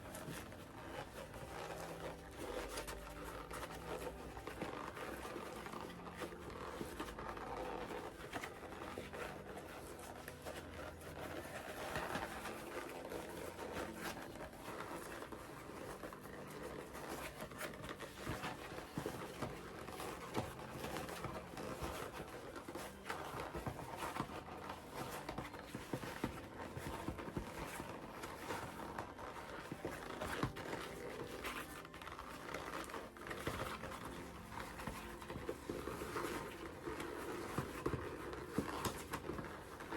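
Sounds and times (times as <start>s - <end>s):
leather clicks and crinkles: 0.0s - 39.9s
leather creaking and squeaking: 0.0s - 39.9s.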